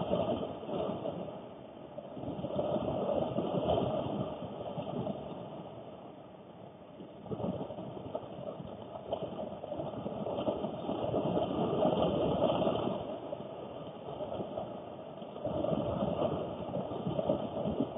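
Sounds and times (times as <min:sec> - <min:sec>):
heavy rain drumming on car roof: 0:00.0 - 0:06.1, 0:06.8 - 0:17.9.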